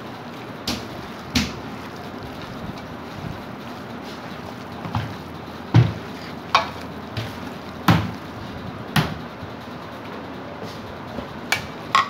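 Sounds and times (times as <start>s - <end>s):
hand mixing minced meat in bowl: 0.0s - 10.1s.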